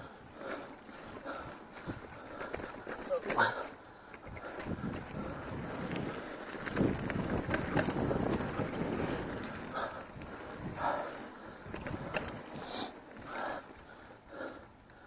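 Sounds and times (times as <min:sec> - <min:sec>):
bike rattling and clicking: 0:00.0 - 0:15.0
bike tyres on dirt: 0:00.0 - 0:15.0.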